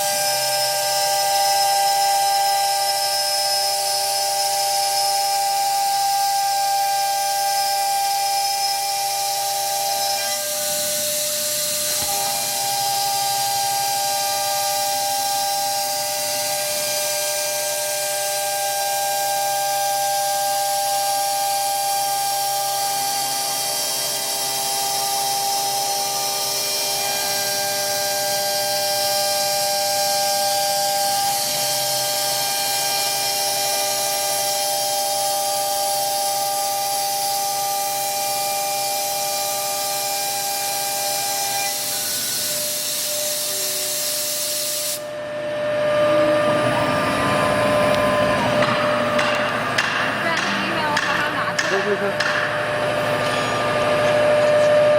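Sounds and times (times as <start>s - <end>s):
hiss of bit cutting wood: 0.0s - 45.1s
router spindle whine: 0.0s - 54.9s.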